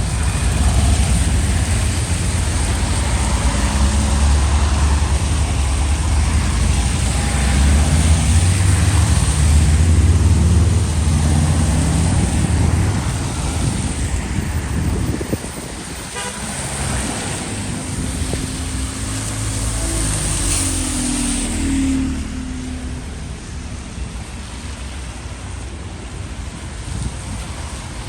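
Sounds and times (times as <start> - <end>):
steady traffic hiss: 0.0 - 28.0
vehicle engine rumble: 0.0 - 28.0.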